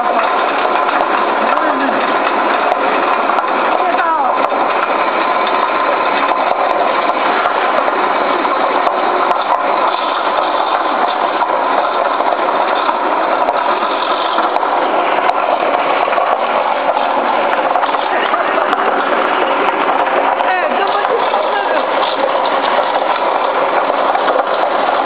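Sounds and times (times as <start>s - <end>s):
carrot juicer motor grinding: 0.0s - 25.0s.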